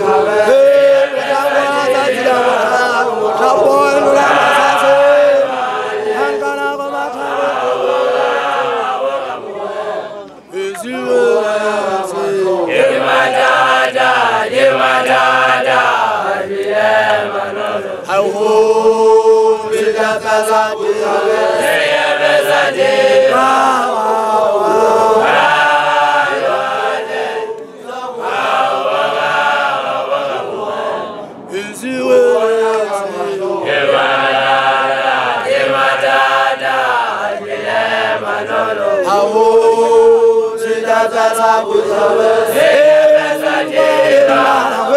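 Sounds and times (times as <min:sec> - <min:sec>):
voices singing along: 0:00.0 - 0:44.9
woman leading a chanted song: 0:00.0 - 0:44.9.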